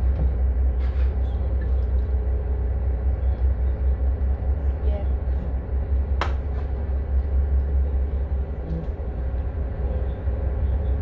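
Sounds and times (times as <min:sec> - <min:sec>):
boat engine low rumble: 0:00.0 - 0:11.0.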